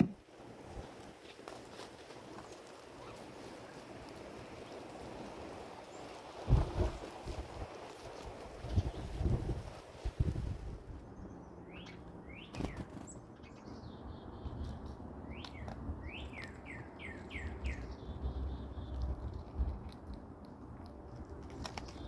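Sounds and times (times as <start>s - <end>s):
low wind rumble: 3.6s - 22.0s.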